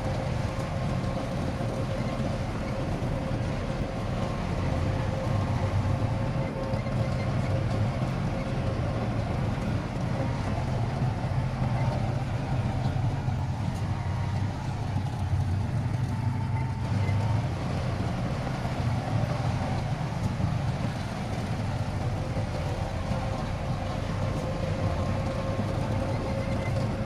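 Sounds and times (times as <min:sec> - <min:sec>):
diesel engine rumbling: 0:00.0 - 0:27.0
faint engine whine: 0:00.0 - 0:27.0.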